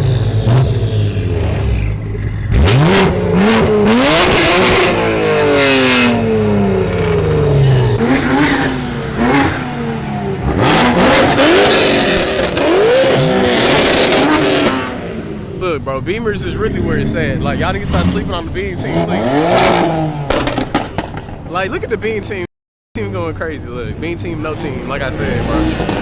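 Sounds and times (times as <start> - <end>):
exhaust cracks: 0.0 - 22.2, 24.0 - 26.0
car engine revving: 0.0 - 22.4, 23.4 - 26.0.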